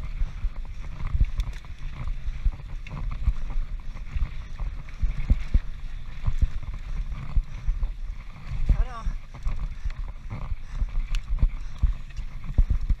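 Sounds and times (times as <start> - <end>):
mountain bike rattling: 0.0 - 13.0
wind buffeting microphone: 0.0 - 13.0.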